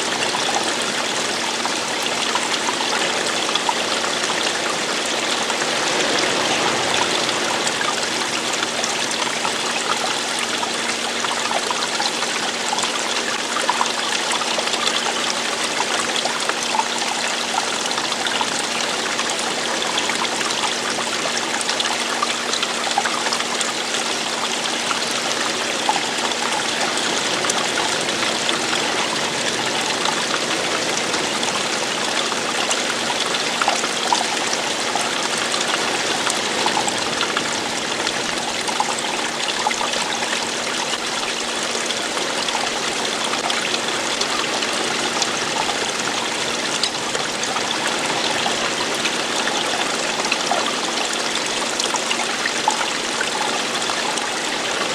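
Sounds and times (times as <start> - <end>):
stream splashing over rocks: 0.0 - 54.9.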